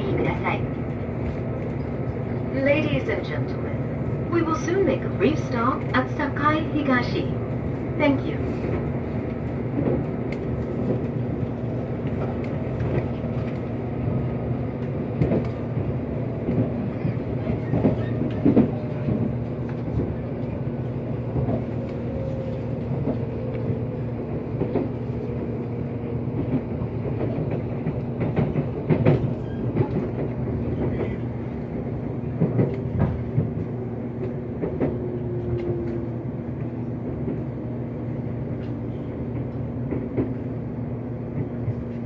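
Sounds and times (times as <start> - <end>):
train running hum: 0.0 - 42.0.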